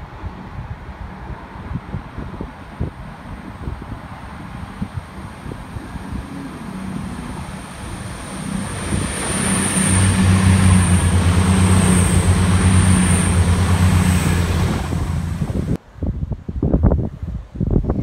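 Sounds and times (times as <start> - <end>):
wheels rushing on rails: 0.0 - 15.8
train engine hum: 0.0 - 16.0.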